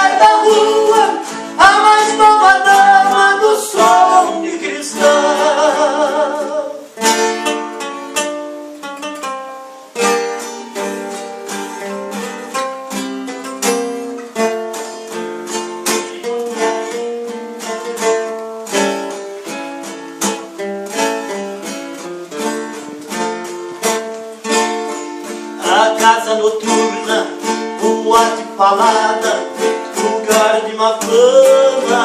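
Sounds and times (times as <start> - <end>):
plucked string instruments melody: 0.0 - 32.0
strummed chords: 0.0 - 32.0.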